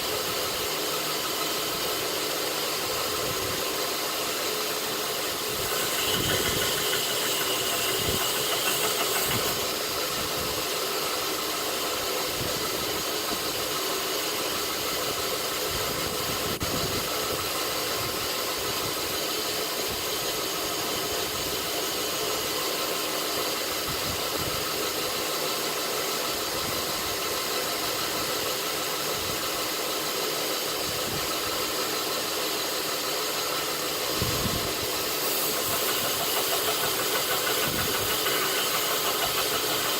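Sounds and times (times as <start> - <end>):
belt grinder running: 0.0 - 39.9.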